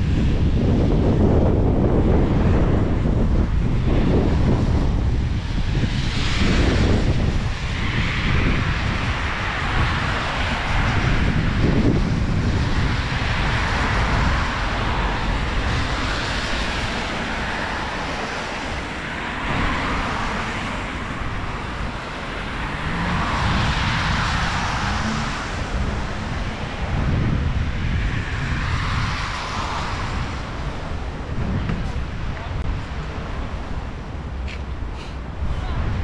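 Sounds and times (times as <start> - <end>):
steady rushing noise: 0.0 - 36.0
wind buffeting microphone: 0.0 - 36.0.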